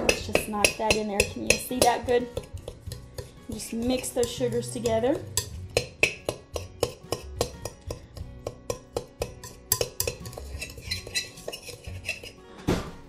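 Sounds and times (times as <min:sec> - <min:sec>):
metal utensil clinking bowl: 0:00.0 - 0:12.4.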